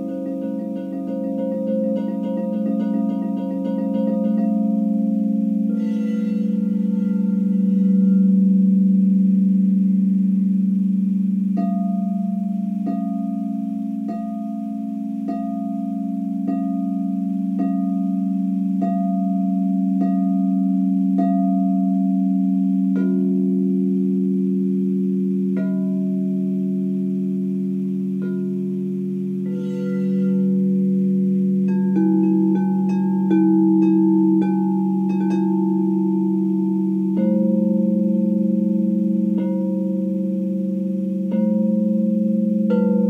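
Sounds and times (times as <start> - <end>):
low singing bowl tone: 0.0 - 43.0
singing bowl strikes: 0.0 - 43.0.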